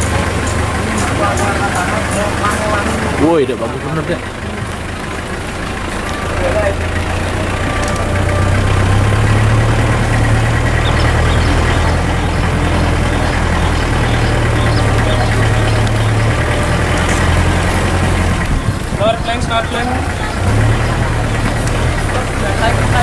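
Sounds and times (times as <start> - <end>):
car engine low hum: 0.0 - 23.0
vehicle rolling noise: 0.0 - 23.0.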